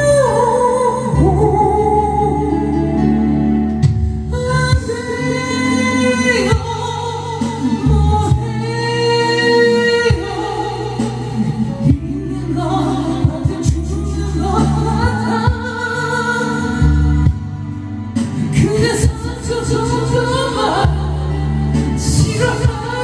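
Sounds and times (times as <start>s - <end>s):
backing music: 0.0s - 23.0s.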